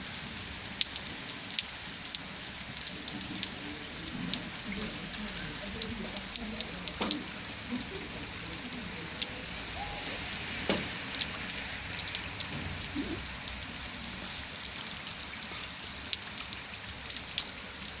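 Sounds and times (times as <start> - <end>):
steady rainfall hiss: 0.0 - 18.0.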